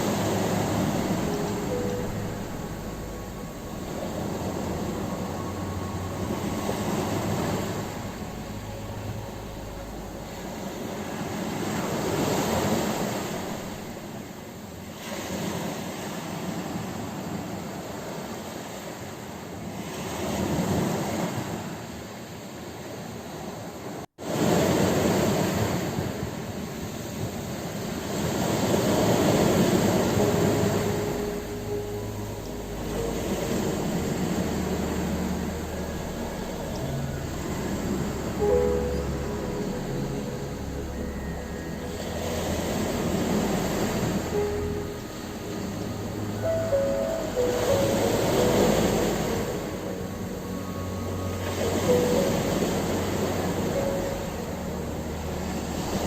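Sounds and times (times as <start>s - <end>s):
ocean waves breaking: 0.0s - 16.6s, 27.1s - 56.0s.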